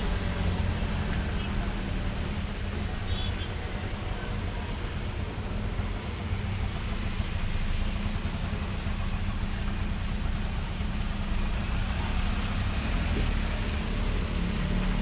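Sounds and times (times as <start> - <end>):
small engine rumbling: 0.0 - 15.0
tyres on a wet road: 0.0 - 15.0.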